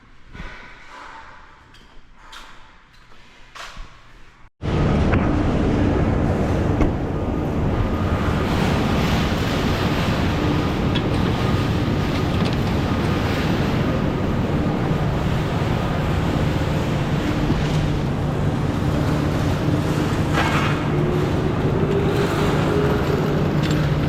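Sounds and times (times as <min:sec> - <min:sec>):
vehicle road rush: 0:04.6 - 0:24.0
wind buffeting microphone: 0:04.7 - 0:24.0.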